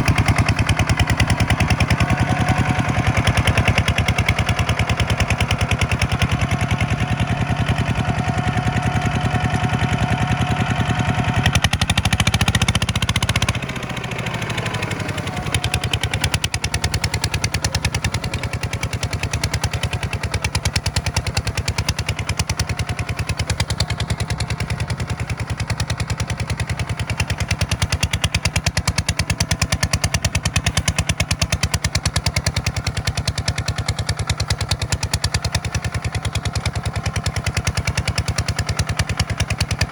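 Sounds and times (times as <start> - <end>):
tractor engine running hard: 0.0 - 39.9.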